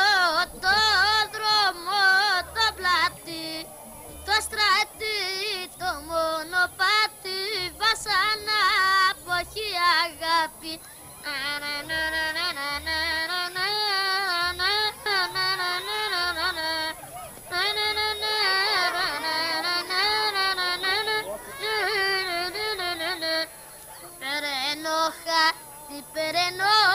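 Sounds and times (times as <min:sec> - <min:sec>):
high voice singing: 0:00.0 - 0:26.9.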